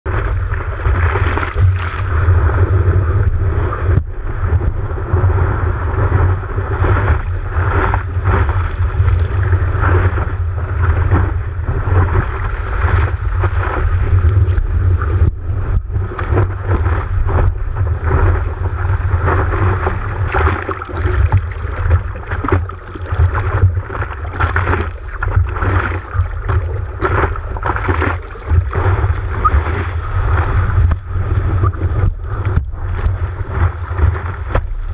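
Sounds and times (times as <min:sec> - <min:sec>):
low rumble of water: 0:00.0 - 0:34.9
wind buffeting camera: 0:00.0 - 0:34.9
seawater rushing and splashing: 0:00.1 - 0:34.9.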